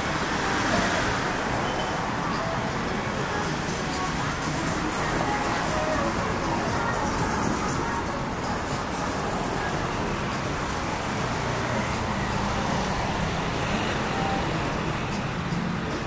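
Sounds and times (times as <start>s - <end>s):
city road traffic: 0.0s - 16.0s.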